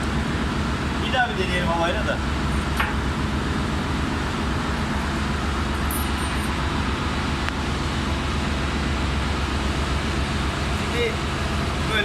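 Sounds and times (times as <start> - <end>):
engine-room machinery drone: 0.0 - 12.0.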